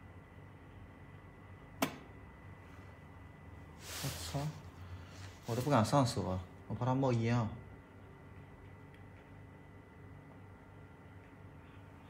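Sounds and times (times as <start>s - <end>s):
faint computer hum: 0.0s - 12.0s.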